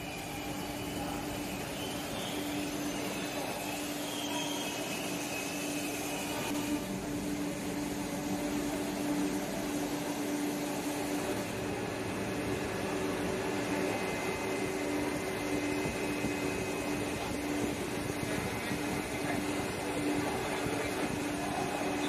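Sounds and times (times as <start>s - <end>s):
electric train machine hum: 0.0s - 22.0s.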